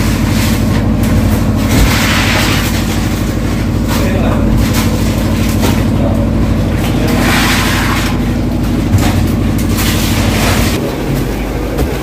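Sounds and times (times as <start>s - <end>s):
engine running: 0.0s - 12.0s
knocks and clatter: 0.0s - 12.0s.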